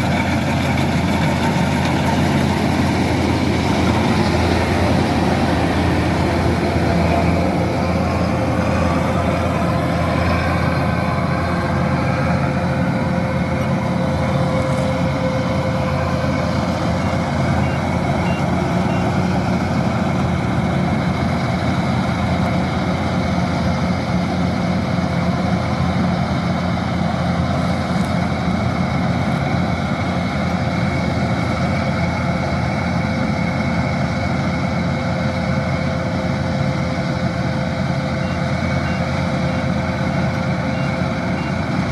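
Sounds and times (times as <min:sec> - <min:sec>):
diesel engine humming: 0:00.0 - 0:41.9
machinery whine: 0:00.0 - 0:41.9.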